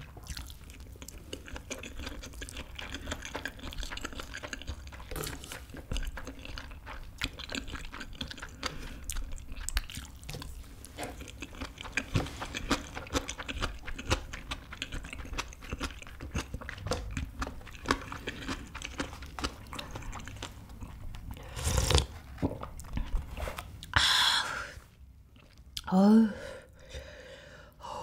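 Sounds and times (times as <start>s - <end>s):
wet chewing and mouth clicks: 0.0s - 24.0s, 25.3s - 25.9s.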